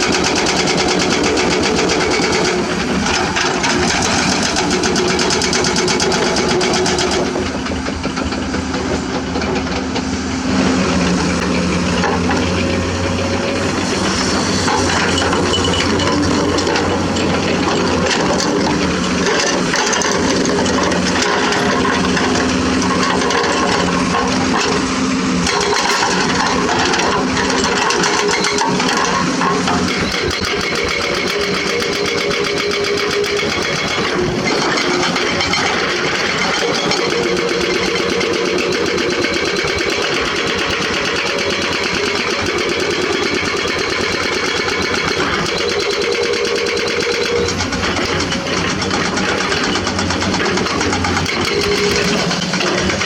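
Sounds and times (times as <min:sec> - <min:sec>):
excavator diesel engine working: 0:00.0 - 0:53.0.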